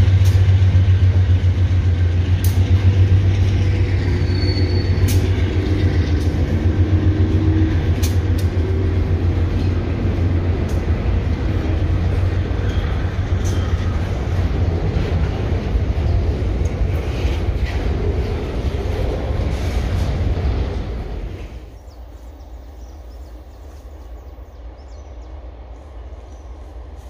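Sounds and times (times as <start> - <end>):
locomotive engine drone: 0.0 - 27.0.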